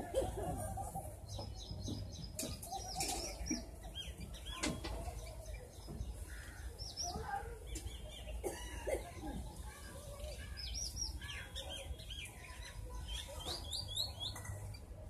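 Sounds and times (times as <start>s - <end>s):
high chirping birds: 0.8s - 8.8s, 9.6s - 15.0s.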